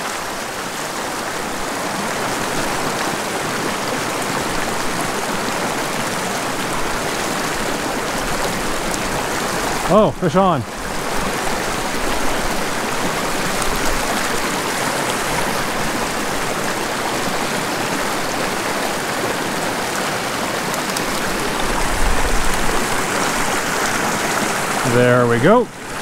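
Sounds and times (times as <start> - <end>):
creek rushing over boulders: 0.0 - 26.0.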